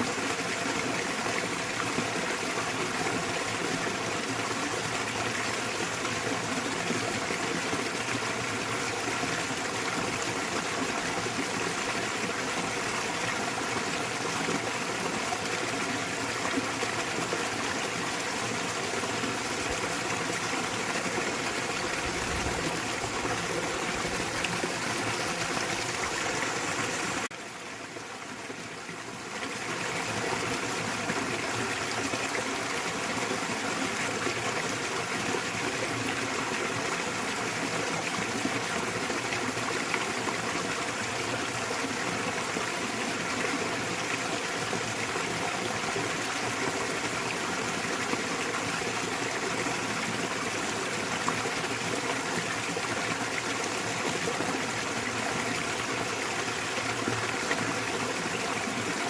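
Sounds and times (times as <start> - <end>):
small waterfall rushing and splashing: 0.0 - 59.0.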